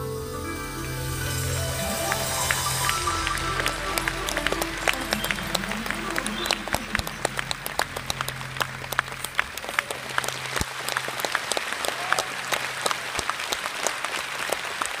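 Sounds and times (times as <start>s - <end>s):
audience applauding: 1.6s - 15.0s.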